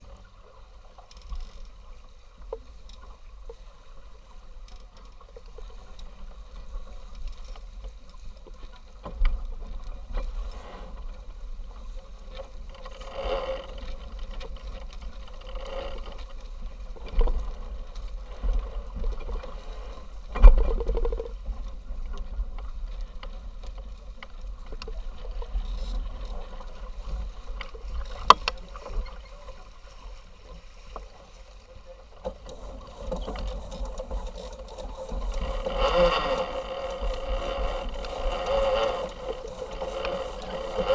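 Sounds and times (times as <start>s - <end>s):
rush of wind and water: 0.0s - 40.9s.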